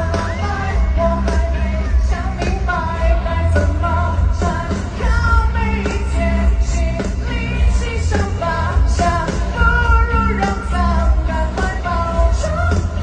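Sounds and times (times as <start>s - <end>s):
heavy bass: 0.0s - 13.0s
person singing: 0.0s - 13.0s.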